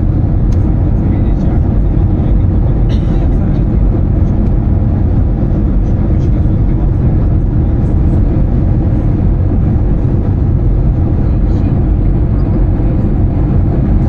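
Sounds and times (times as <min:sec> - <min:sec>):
airplane cabin noise: 0:00.0 - 0:14.0.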